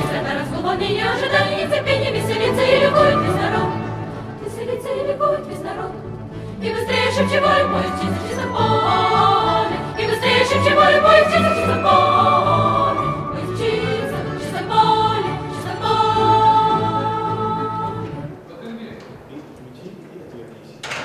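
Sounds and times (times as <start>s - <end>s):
choir singing sustained notes: 0.0s - 18.5s.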